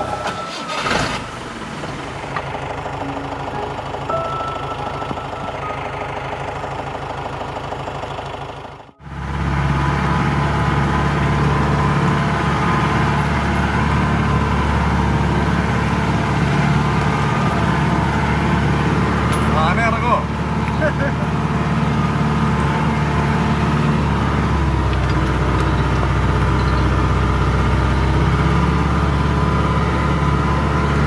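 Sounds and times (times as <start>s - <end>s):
jeep engine driving off-road: 0.0s - 31.0s
jeep engine idling: 0.0s - 31.0s.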